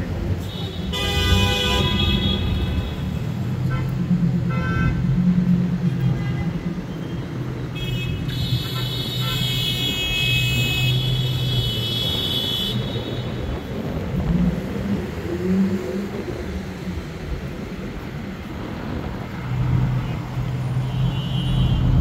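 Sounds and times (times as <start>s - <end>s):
cars passing on street: 0.0s - 22.0s.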